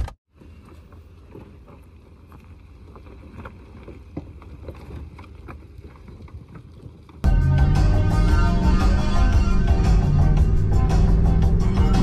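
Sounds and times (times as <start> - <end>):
vehicle rumbling on dirt road: 0.0 - 12.0.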